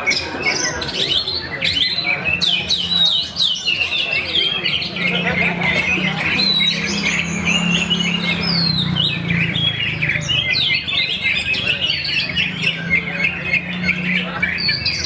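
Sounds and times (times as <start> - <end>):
bird singing whistles and chirps: 0.0 - 5.6, 6.2 - 15.0
many songbirds singing: 0.0 - 15.0.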